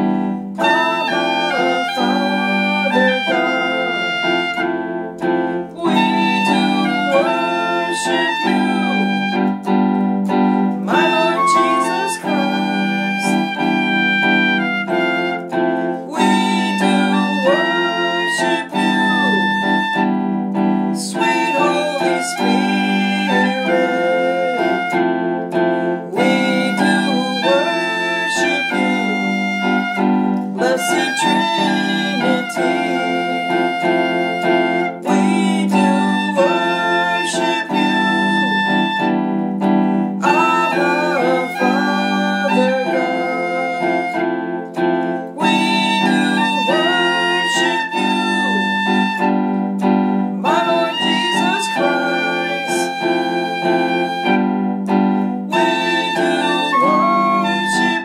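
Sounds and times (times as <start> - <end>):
worship music on keyboard: 0.0 - 58.0.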